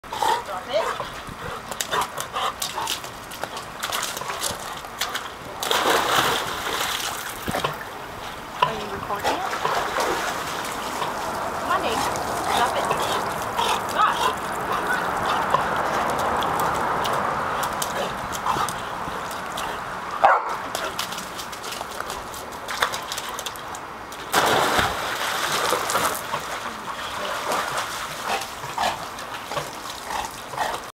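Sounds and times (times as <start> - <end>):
dog swimming and splashing: 0.0 - 30.9
water sloshing: 0.0 - 30.9
dog splashing into pool: 0.5 - 7.9, 8.6 - 19.6, 20.2 - 30.9.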